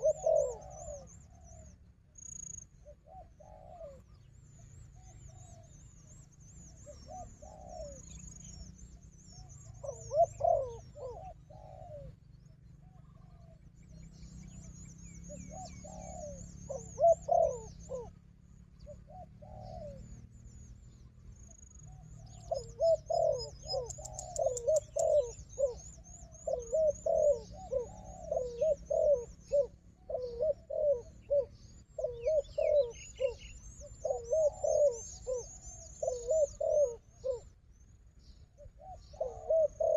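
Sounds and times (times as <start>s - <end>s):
doves cooing: 0.0s - 4.2s, 4.9s - 8.7s, 9.4s - 20.3s, 21.4s - 37.6s, 38.6s - 39.9s.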